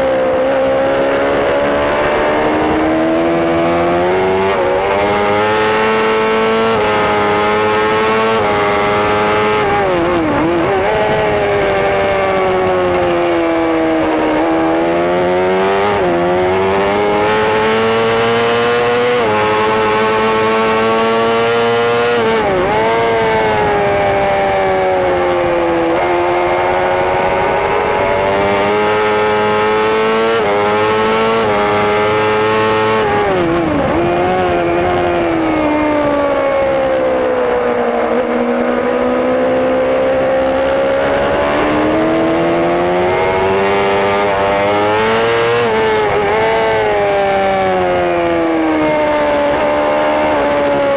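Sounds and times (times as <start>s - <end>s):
superbike engine at high revs: 0.0s - 50.9s.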